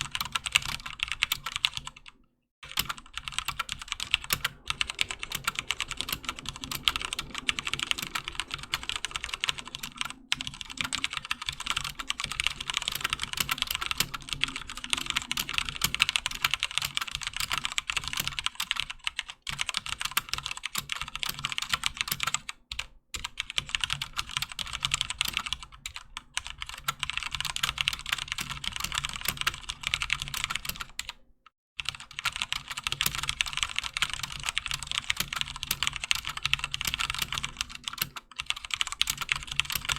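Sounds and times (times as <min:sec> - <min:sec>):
fast mechanical keyboard typing: 0:00.0 - 0:31.2, 0:31.8 - 0:39.9.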